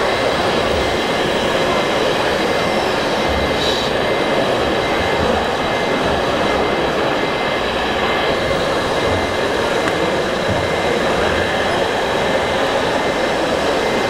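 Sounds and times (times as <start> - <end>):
busy exhibition hall din: 0.0 - 14.0.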